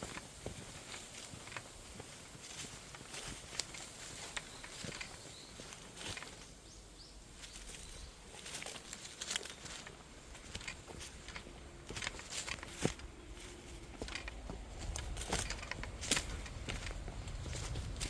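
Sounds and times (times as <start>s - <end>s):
dry leaves and twigs crackling: 0.0s - 18.0s.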